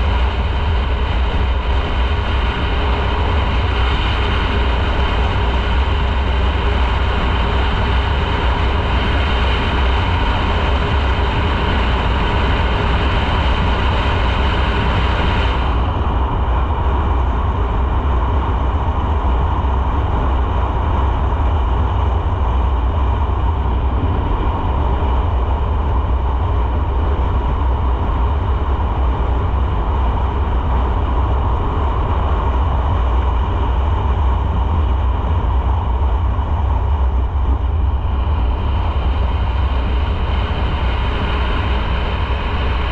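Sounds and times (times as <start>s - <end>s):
wind rush on microphone: 0.0s - 42.9s.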